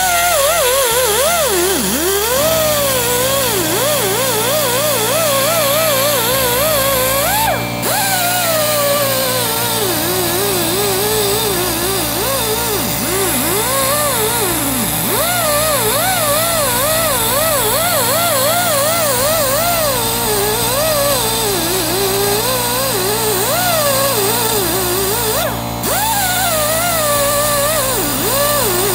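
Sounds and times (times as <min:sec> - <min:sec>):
die grinder whine: 0:00.0 - 0:28.9.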